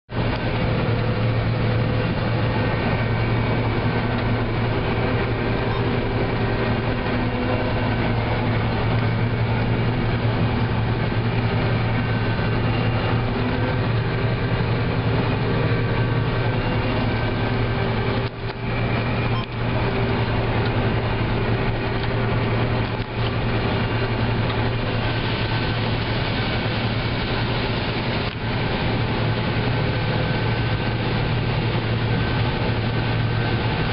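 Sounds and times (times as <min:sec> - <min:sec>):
combine harvester engine drone: 0:00.1 - 0:33.9.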